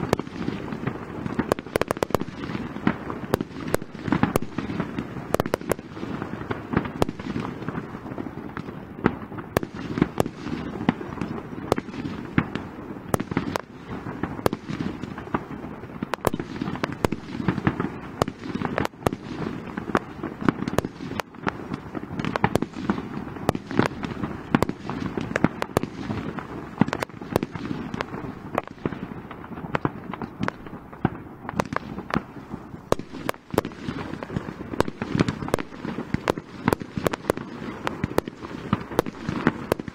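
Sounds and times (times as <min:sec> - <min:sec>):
fireworks bangs and cracks: 0:00.0 - 0:39.9
low rumble of explosions: 0:00.0 - 0:39.9.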